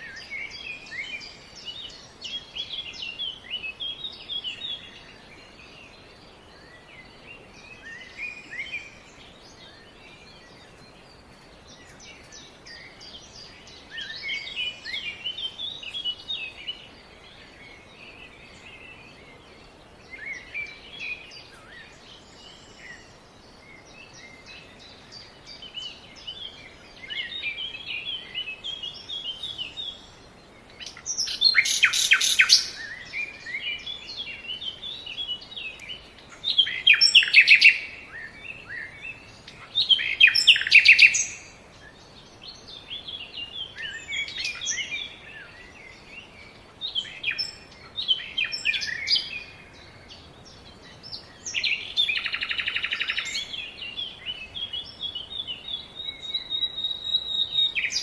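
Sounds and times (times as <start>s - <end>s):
faint background hiss: 0.0s - 58.0s
small birds chirping: 0.0s - 58.0s.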